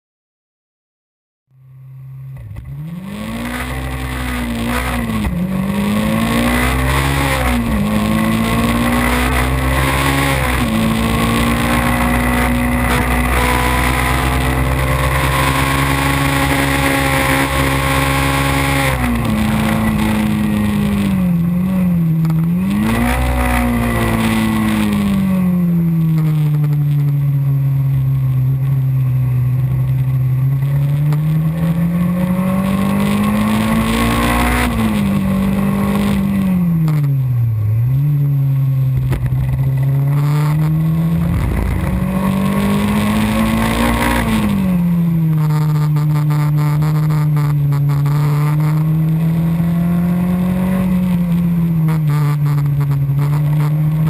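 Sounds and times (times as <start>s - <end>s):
race car engine accelerating: 2.3s - 27.0s, 30.5s - 54.0s.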